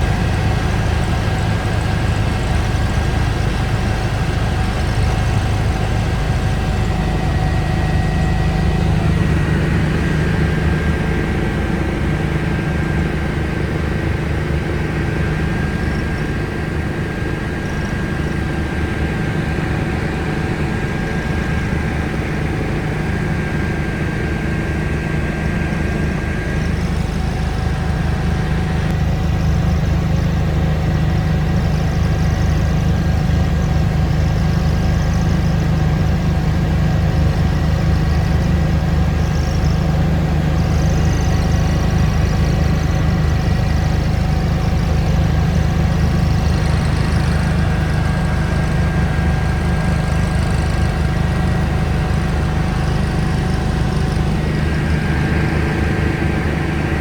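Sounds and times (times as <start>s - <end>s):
helicopter rotor and engine drone: 0.0s - 57.0s
high turbine whine: 0.0s - 57.0s.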